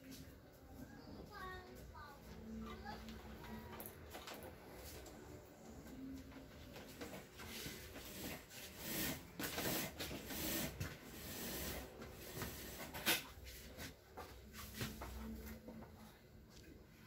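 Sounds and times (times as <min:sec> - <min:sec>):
rustling and scraping handling noise: 0:00.0 - 0:16.8.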